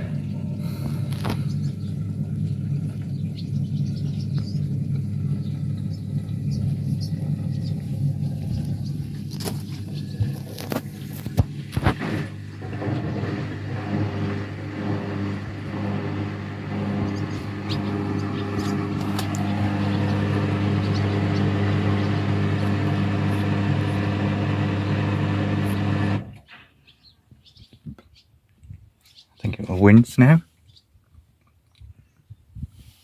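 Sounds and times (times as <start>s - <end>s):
washing machine humming: 0.0s - 26.4s.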